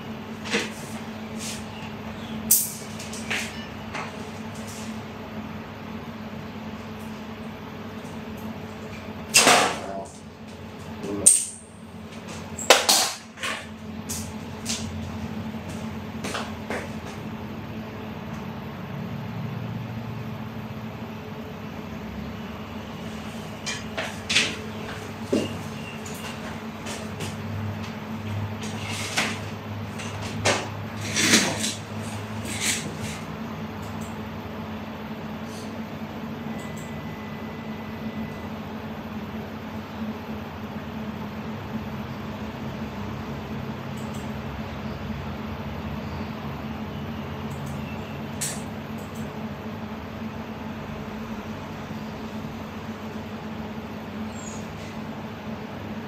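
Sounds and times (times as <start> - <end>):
low room hum: 0.0 - 56.0.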